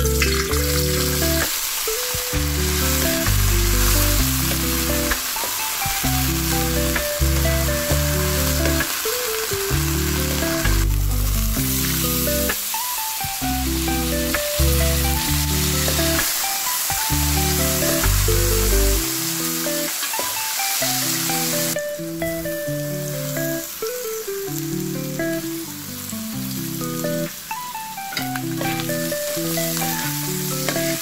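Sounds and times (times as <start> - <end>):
background music: 0.0 - 31.0
potatoes sizzling in oil: 0.0 - 31.0.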